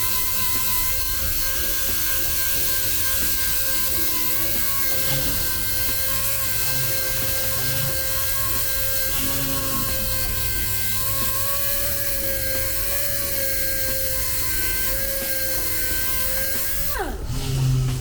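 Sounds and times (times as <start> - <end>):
power tool whining: 0.0 - 18.0.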